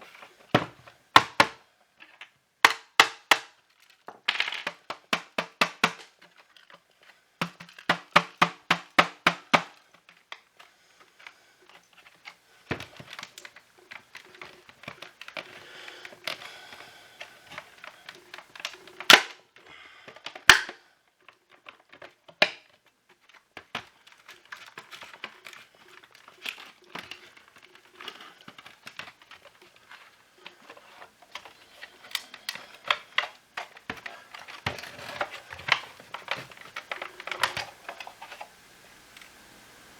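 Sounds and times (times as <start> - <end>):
handling of plastic parts: 0.0 - 39.4.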